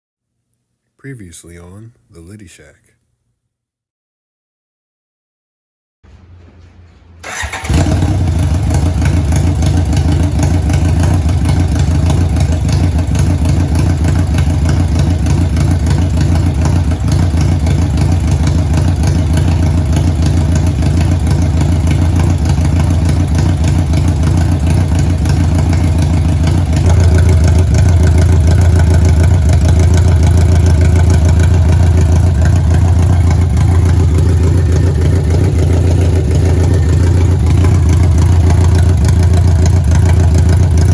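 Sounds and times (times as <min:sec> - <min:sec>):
motorcycle engine running: 0:07.2 - 0:40.9.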